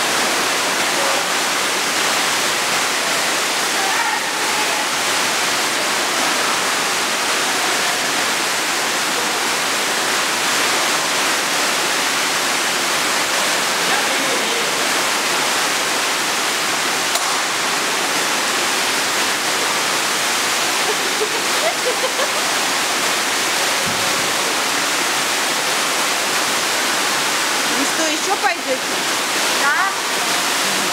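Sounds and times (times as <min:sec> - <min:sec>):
water rushing and splashing into pool: 0:00.0 - 0:30.9.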